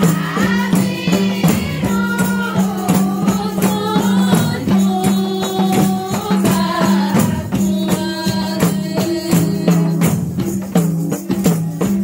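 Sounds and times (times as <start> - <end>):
girls singing in unison: 0.0 - 10.0
frame drums beating: 0.0 - 12.0.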